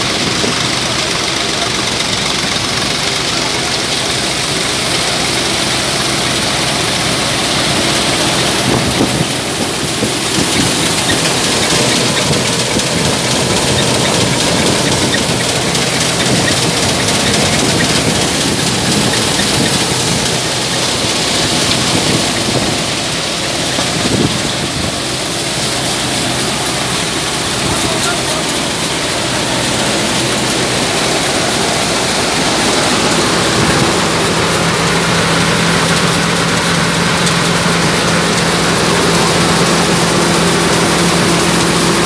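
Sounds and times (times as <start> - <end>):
thresher running: 0.0 - 42.0.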